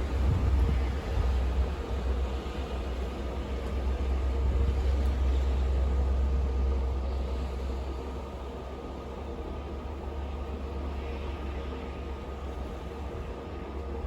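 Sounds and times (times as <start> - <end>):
wind blowing with deep rumble: 0.0 - 14.0.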